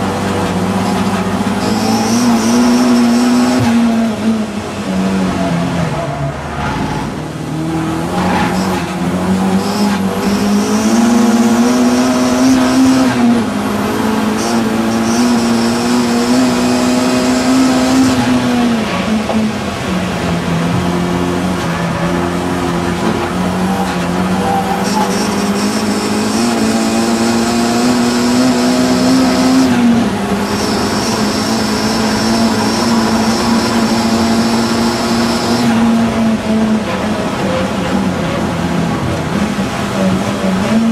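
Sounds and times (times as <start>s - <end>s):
race car engine: 0.0s - 40.9s.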